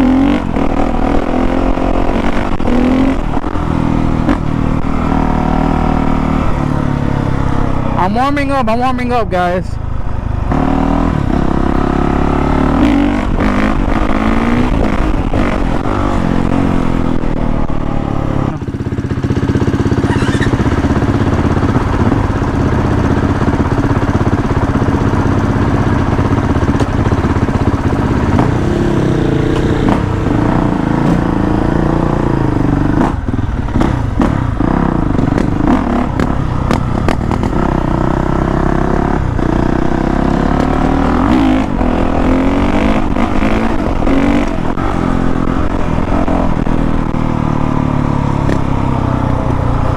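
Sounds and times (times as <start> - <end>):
dirt bike engine revving: 0.0 - 9.7, 10.4 - 49.9.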